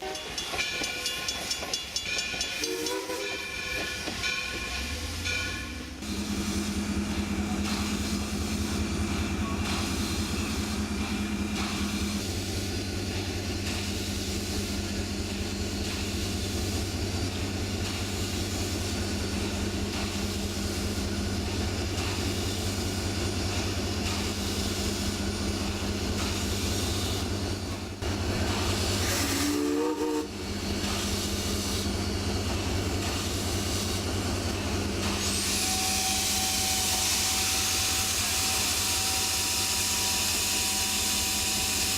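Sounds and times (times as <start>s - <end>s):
steam locomotive hissing: 0.0s - 41.9s.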